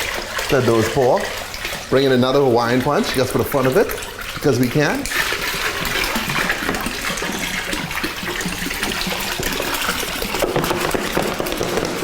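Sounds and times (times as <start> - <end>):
liquid pouring into sink: 0.0 - 12.0.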